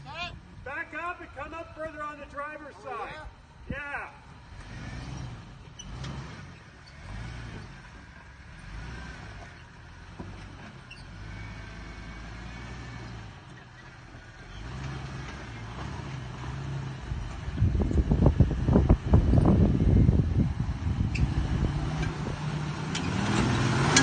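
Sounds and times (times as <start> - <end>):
distant car engine revving: 4.2 - 24.0.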